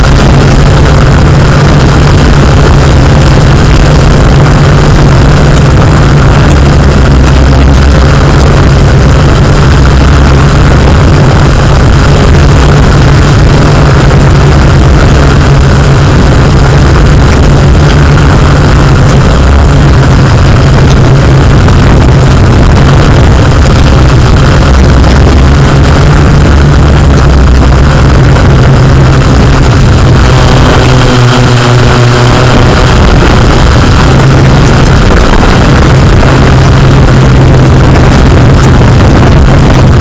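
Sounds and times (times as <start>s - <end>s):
drone rotors humming: 0.0s - 40.0s.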